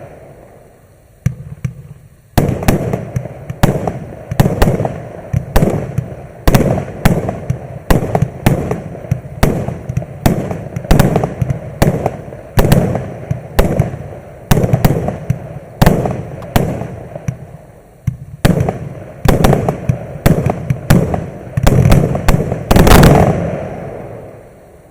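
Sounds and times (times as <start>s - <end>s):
fireworks bangs with rumbling tails: 0.0s - 24.9s.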